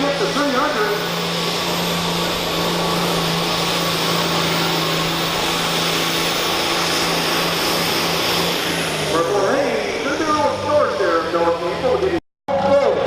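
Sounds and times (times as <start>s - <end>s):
tractor engine at full throttle: 0.0s - 13.0s.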